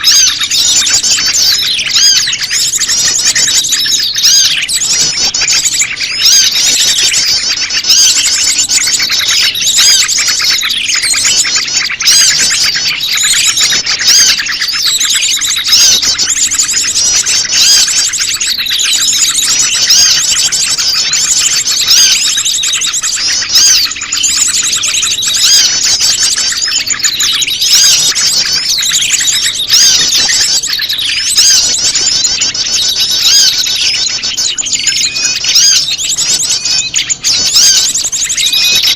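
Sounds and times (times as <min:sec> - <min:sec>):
bird calls: 0:00.0 - 0:38.9
small birds chirping and scolding: 0:00.0 - 0:38.9.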